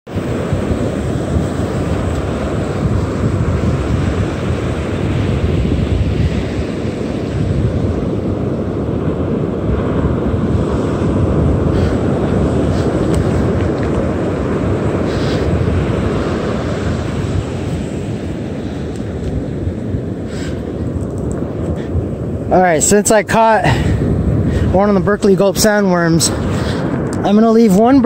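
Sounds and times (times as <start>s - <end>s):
surf washing on beach: 0.1s - 28.0s
wind buffeting microphone: 0.1s - 28.0s.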